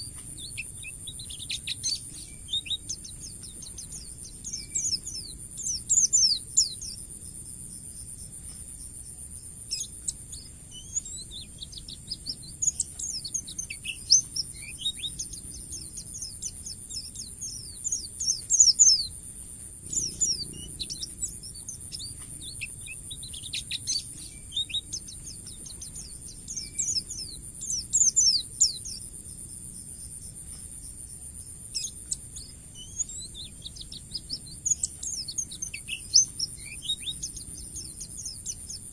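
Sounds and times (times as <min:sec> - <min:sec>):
white-eye singing rapid chirps: 0:00.0 - 0:38.9.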